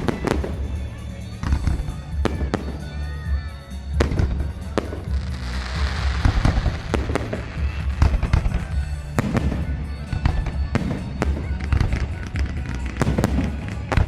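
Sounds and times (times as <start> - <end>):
crackling hiss of fireworks: 0.0 - 14.0
firework shells bursting: 0.0 - 14.0.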